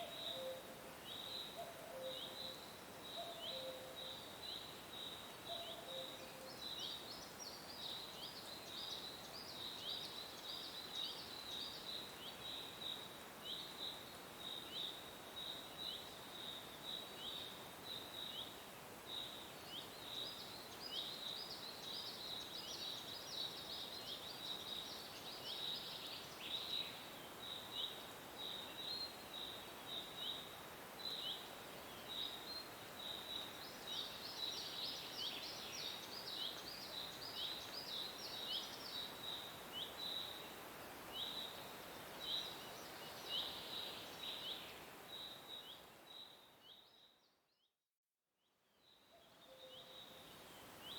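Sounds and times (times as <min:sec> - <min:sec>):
faint steady hiss: 0:00.0 - 0:47.5, 0:48.5 - 0:50.9.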